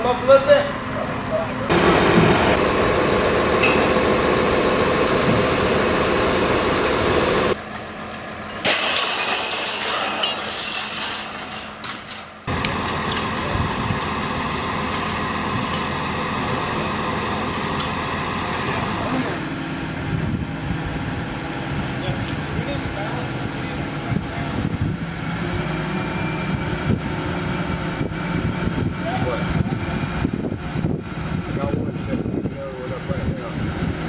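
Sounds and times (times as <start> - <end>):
crane engine running: 0.0 - 34.0
steady machine drone: 0.0 - 34.0.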